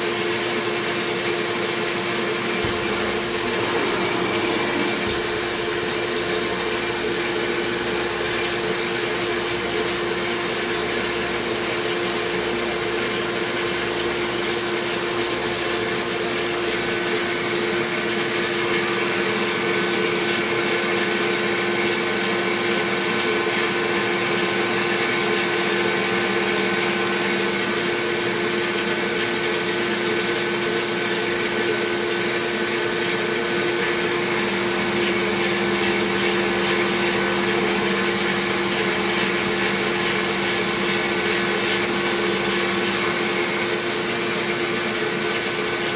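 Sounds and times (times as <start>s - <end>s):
milling machine cutting whine: 0.0s - 45.9s.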